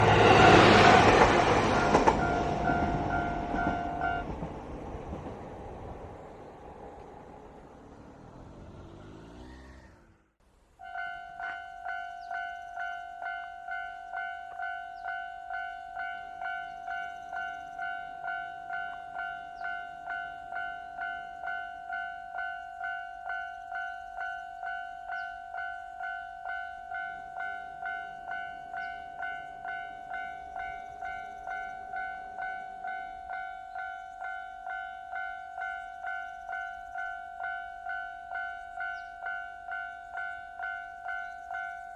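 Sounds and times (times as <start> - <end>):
level crossing warning bell ringing: 0.0 - 4.5, 10.8 - 41.9.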